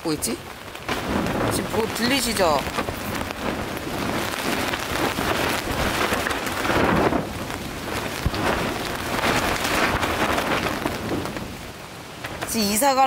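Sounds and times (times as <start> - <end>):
heavy rain beating on a tent: 0.0 - 13.0
strong wind: 0.0 - 13.0.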